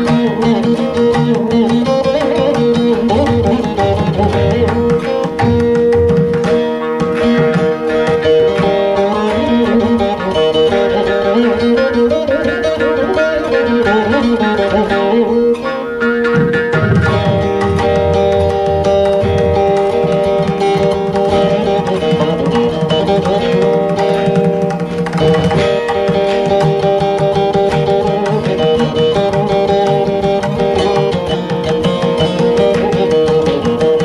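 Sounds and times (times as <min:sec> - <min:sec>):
mridangam drum strokes: 0:00.0 - 0:34.0
plucked veena melody: 0:00.0 - 0:34.0.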